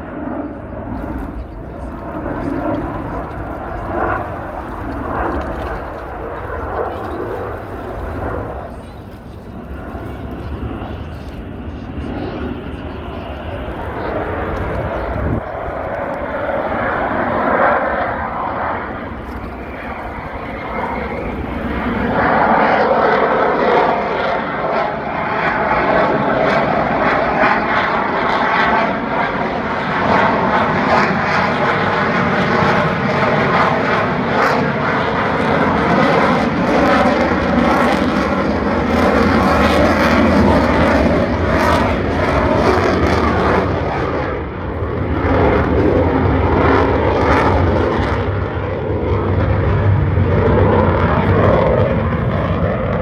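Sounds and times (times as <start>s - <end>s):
airplane engine flying past: 0.0s - 53.0s.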